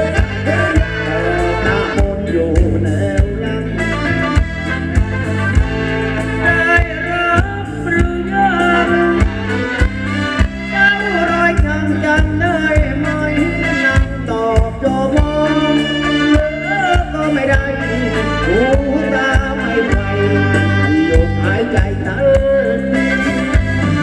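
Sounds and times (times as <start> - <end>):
person singing: 0.0 - 4.2, 6.2 - 9.6, 10.6 - 24.0
drum beat and bass: 0.0 - 24.0.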